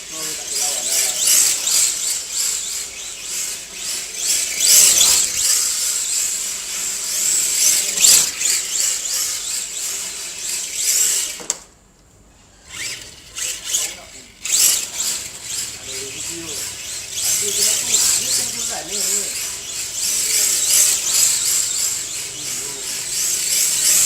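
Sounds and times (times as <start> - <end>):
electric toy car motor whining: 0.0 - 11.6, 12.4 - 24.0.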